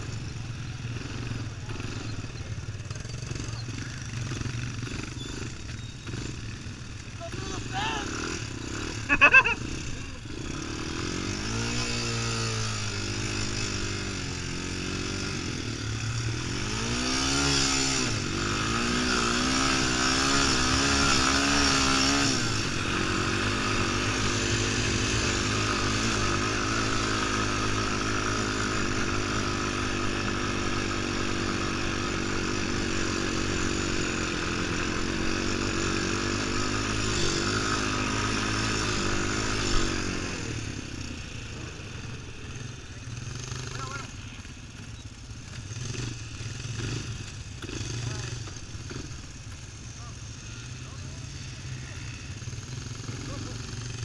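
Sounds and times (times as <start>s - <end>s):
quad engine accelerating: 0.0s - 54.0s.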